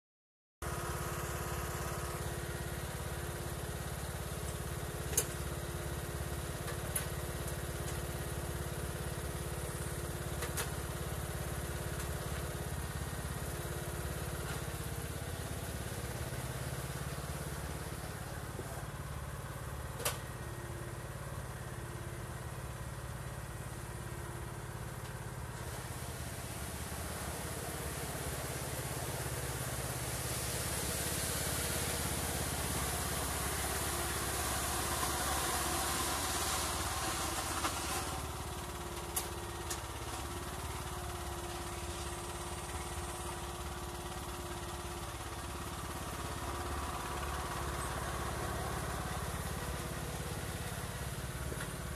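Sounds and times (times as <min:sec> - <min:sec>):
lawn tractor engine running: 0:00.6 - 0:51.9.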